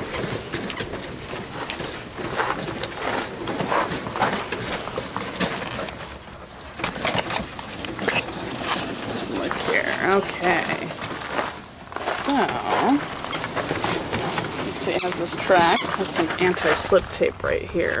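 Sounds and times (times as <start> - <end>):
carpet belt rolling over rollers: 0.0 - 18.0.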